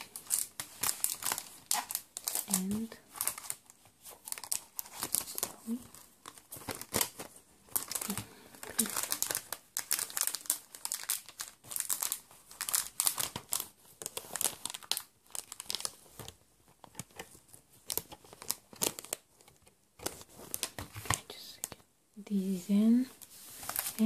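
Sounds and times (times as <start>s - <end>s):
plastic sleeves crinkling: 0.0s - 21.9s, 22.7s - 24.0s.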